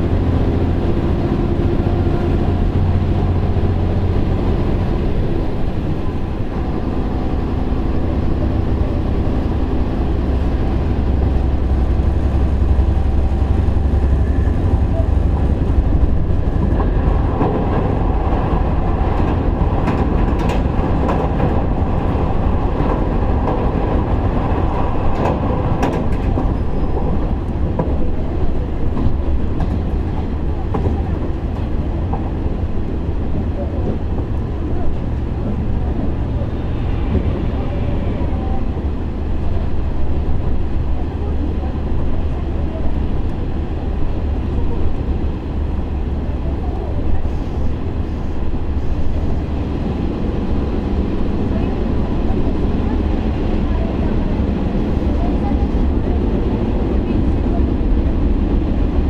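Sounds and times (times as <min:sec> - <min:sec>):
diesel engine running: 0:00.0 - 0:59.0
wheel-on-rail rumble: 0:00.0 - 0:59.0.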